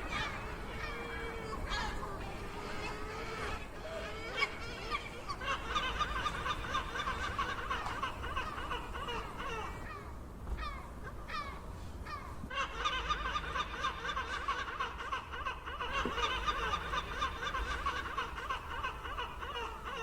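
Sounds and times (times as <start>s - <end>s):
gulls calling: 0.0s - 20.0s.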